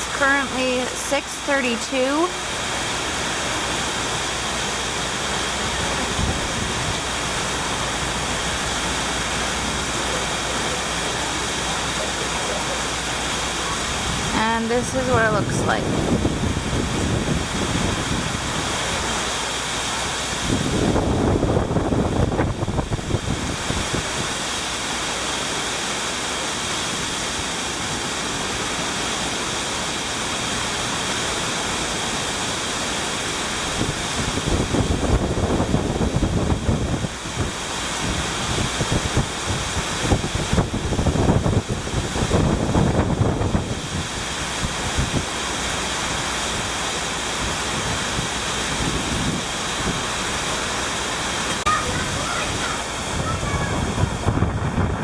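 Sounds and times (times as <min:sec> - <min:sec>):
wind gusting on microphone: 0:00.0 - 0:32.5, 0:33.4 - 0:55.0
heavy rain pouring: 0:00.0 - 0:55.0.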